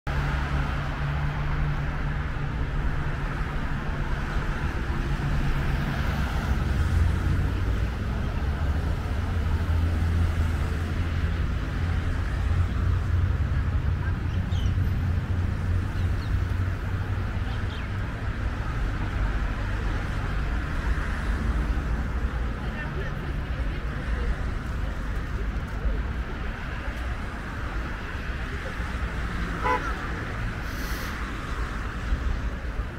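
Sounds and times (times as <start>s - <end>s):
cars driving past: 0.1s - 32.9s.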